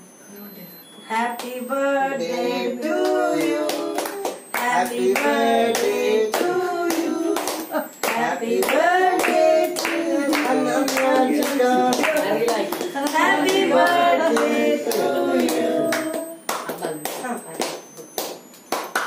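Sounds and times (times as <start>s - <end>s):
people singing birthday song: 1.0s - 17.9s
people clapping in time: 3.0s - 19.0s.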